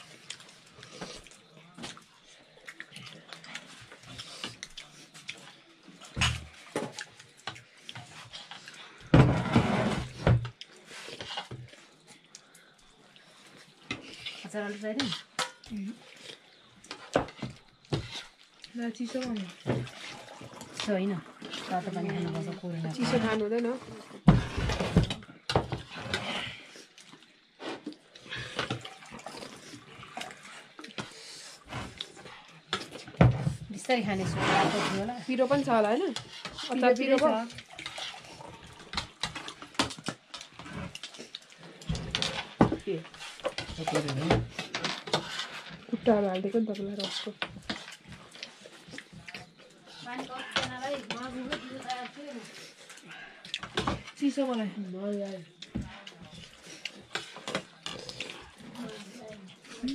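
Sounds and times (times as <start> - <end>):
chewing and slurping: 0.0 - 59.9.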